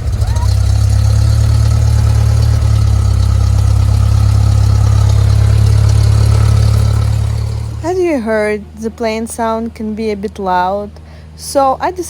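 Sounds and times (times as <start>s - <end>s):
aircraft piston engine drone: 0.0s - 11.9s.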